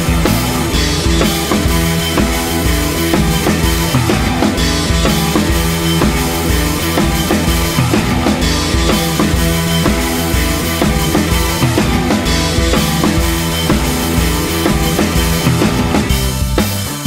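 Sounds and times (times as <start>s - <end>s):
music with steady drum beat: 0.0s - 17.0s.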